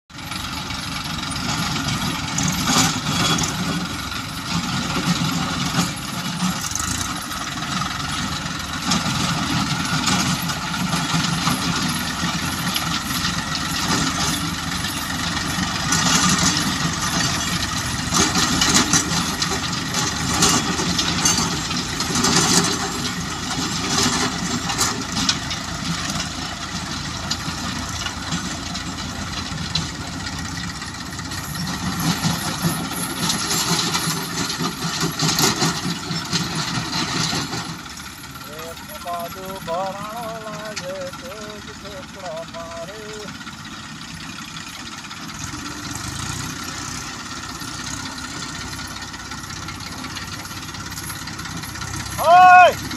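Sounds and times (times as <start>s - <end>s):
diesel tractor engines under load: 0.1s - 52.9s.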